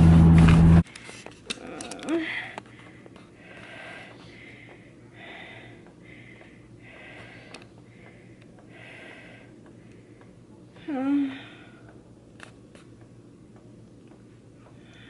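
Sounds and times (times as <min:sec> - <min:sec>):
person breathing rhythmically: 0:00.8 - 0:12.3, 0:13.0 - 0:15.0.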